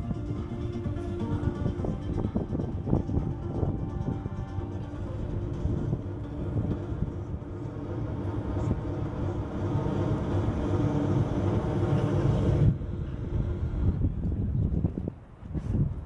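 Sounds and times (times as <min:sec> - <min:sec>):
faint hum: 0:00.0 - 0:14.8
low mechanical rumble: 0:00.0 - 0:16.0.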